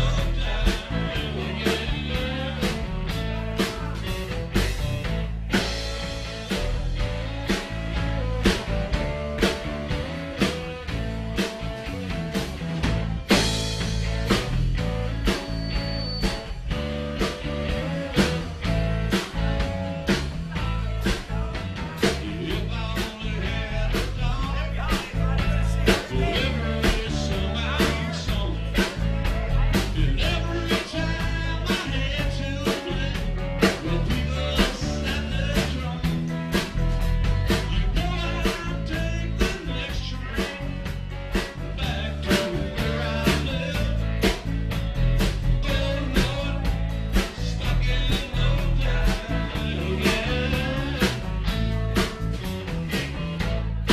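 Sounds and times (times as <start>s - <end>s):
electric bass: 0.0s - 53.9s
electric guitar: 0.0s - 53.9s
steady drum beat: 0.0s - 53.9s.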